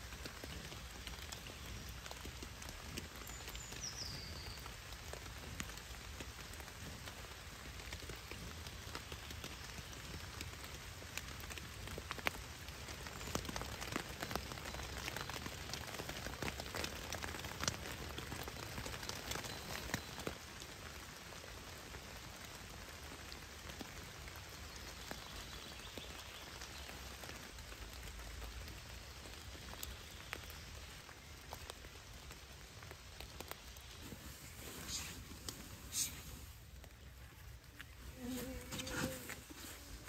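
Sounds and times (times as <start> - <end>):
rain hissing: 0.0 - 40.0
raindrops tapping on tarp: 0.0 - 40.0.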